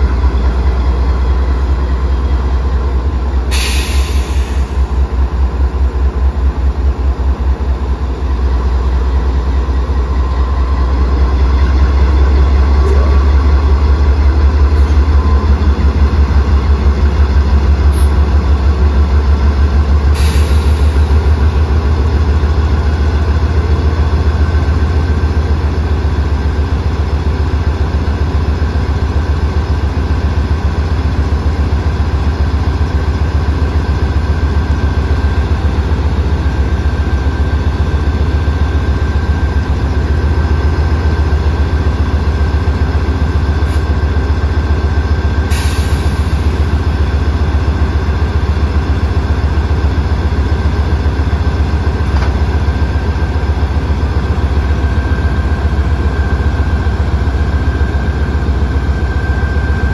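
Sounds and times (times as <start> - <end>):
diesel locomotive engines idling: 0.0 - 59.9.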